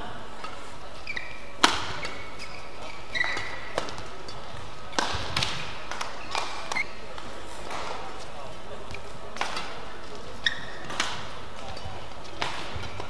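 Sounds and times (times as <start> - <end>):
shoe squeaks on court floor: 0.4 - 7.2, 8.8 - 13.0
racket hitting shuttlecock: 1.6 - 8.2, 8.9 - 13.0.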